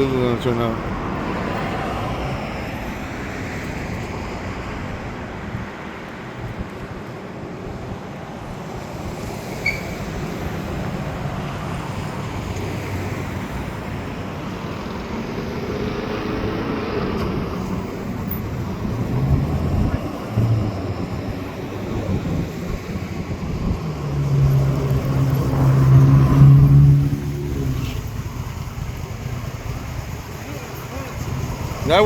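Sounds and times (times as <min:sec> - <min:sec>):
road traffic hum: 0:00.0 - 0:32.0.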